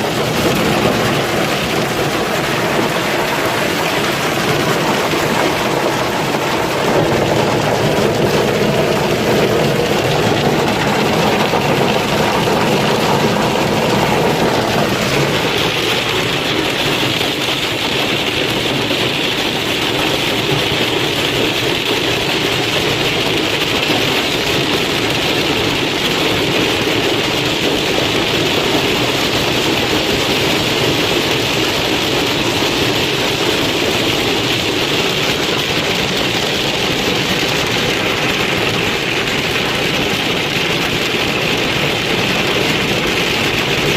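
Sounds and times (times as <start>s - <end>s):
hail clattering: 0.0s - 43.9s.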